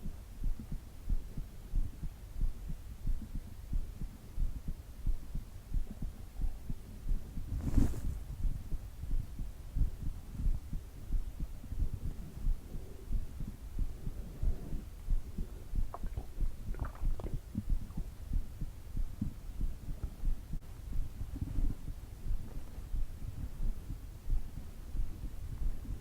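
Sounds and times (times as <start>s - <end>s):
heartbeat thumps: 0.0s - 26.0s.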